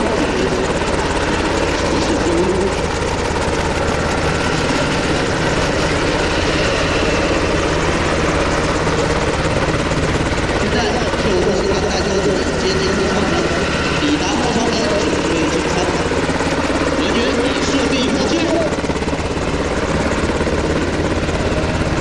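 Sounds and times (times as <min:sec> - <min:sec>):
helicopter rotor and turbines: 0:00.0 - 0:22.0.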